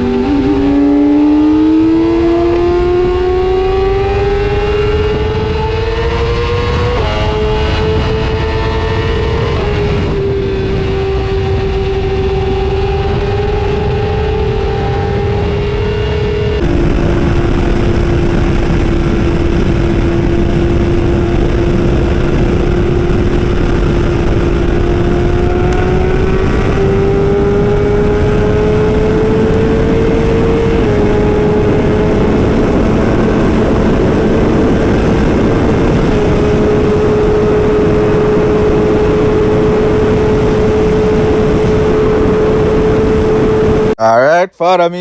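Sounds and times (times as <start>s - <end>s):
motorcycle engine running hard: 0.0s - 44.0s
rushing wind noise: 0.0s - 44.0s.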